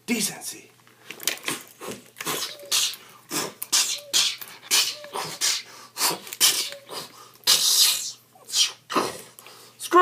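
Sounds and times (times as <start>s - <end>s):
person making hissing mouth noises: 1.4s - 9.7s.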